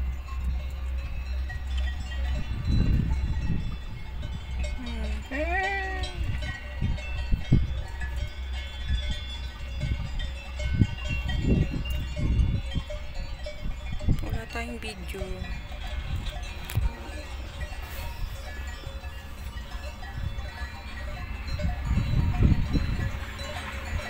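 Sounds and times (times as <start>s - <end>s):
cowbells ringing faintly: 0.0s - 24.0s
steady low rumble: 0.0s - 24.0s.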